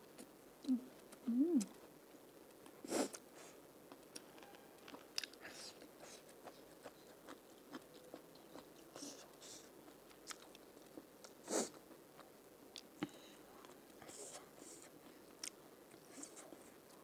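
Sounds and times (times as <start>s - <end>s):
chewing crunchy food: 0.1s - 17.0s.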